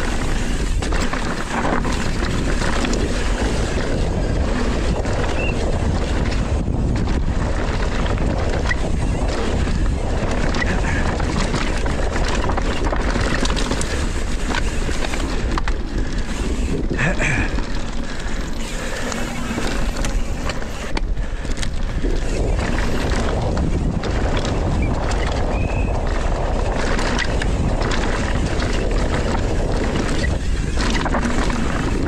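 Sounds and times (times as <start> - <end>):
bike rattling over bumps: 0.0 - 32.0
bike tyres on dirt: 0.0 - 32.0
wind on microphone: 0.0 - 32.0.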